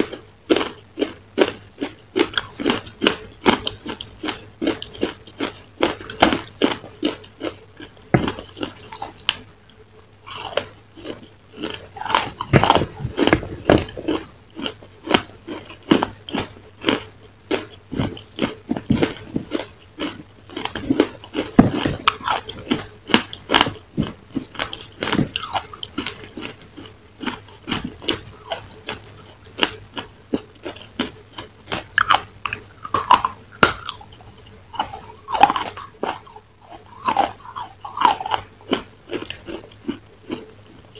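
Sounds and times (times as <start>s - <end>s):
faint steady hum: 0.0s - 40.9s
wet chewing and mouth clicks: 0.0s - 40.9s.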